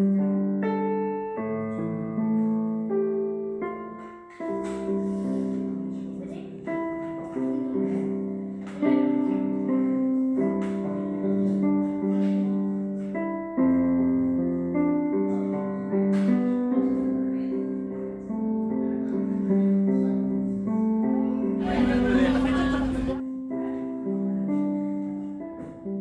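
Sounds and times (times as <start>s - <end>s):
slow keyboard chords: 0.0s - 26.0s.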